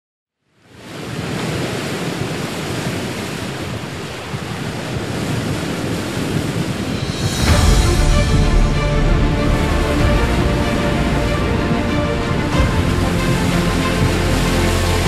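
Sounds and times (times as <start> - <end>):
wind: 0.4 - 15.0
sea surf rushing: 0.6 - 15.0.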